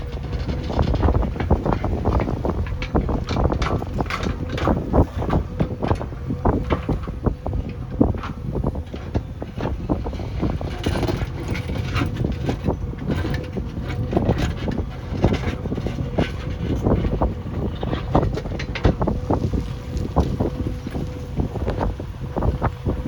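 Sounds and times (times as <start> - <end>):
diesel engine rumbling: 0.0 - 23.0.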